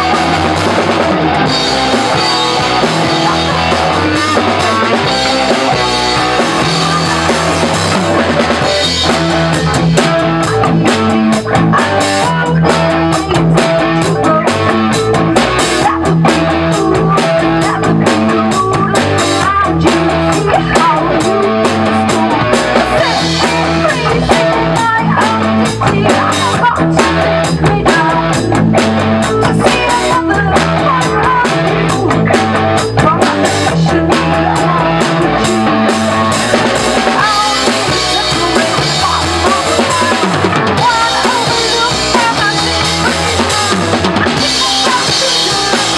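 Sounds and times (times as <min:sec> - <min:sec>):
bass guitar: 0:00.0 - 0:45.9
drum kit: 0:00.0 - 0:45.9
electric guitar: 0:00.0 - 0:45.9
woman singing into microphone: 0:01.4 - 0:45.9.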